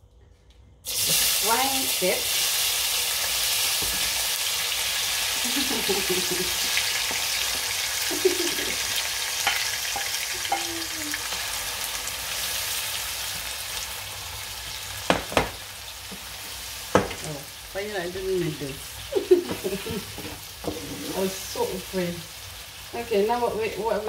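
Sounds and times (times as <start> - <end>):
vegetables sizzling in oil: 0.8 - 24.0.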